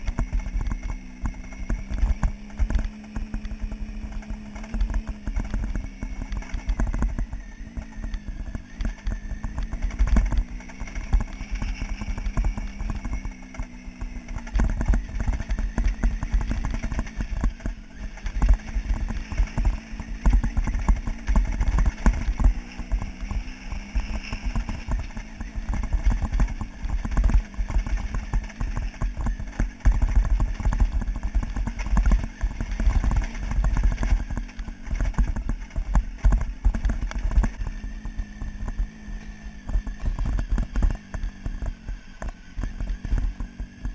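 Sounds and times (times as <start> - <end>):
gravel knocking and rattling: 0.0 - 43.9
motorcycle engine low revs: 0.0 - 43.9.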